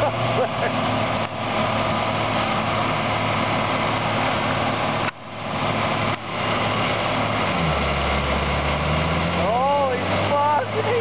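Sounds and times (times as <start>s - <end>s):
tractor diesel engines running: 0.0s - 11.0s.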